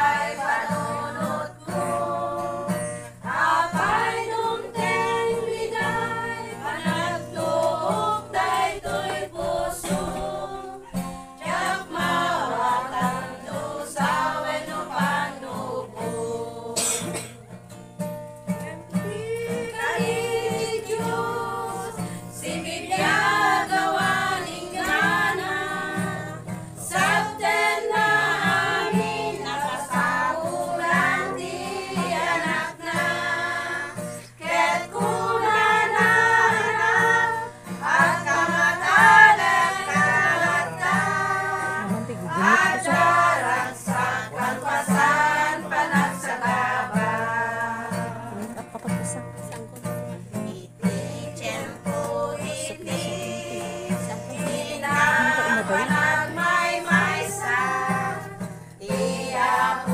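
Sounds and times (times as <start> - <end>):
women singing together: 0.0 - 17.6, 18.5 - 59.9.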